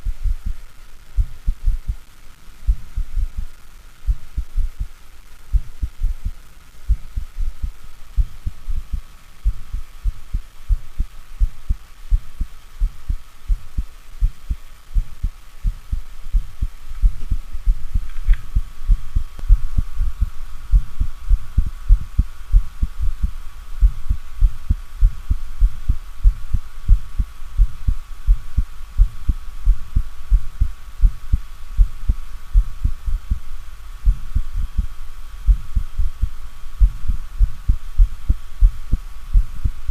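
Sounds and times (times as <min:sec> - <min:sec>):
heartbeat thuds: 0:00.0 - 0:00.6, 0:01.2 - 0:02.0, 0:02.7 - 0:03.5, 0:04.1 - 0:04.9, 0:05.5 - 0:39.9
low rumbling heart murmur: 0:00.0 - 0:00.6, 0:01.2 - 0:02.0, 0:02.7 - 0:03.5, 0:04.1 - 0:04.9, 0:05.5 - 0:06.3, 0:06.9 - 0:33.4, 0:34.0 - 0:39.9
faint steady hum: 0:00.0 - 0:39.9.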